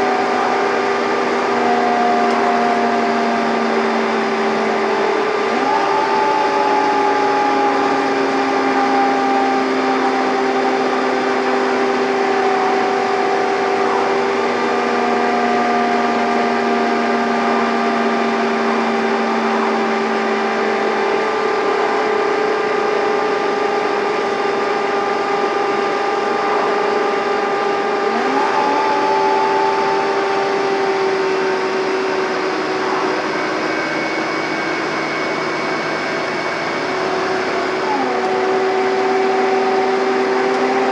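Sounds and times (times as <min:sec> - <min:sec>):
bus engine droning and whining: 0:00.0 - 0:40.9.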